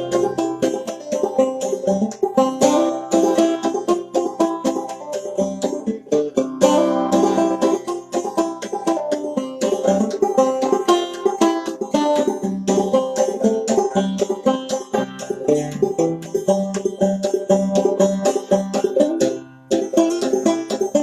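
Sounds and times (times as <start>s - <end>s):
banjo plucked notes: 0.0s - 21.0s.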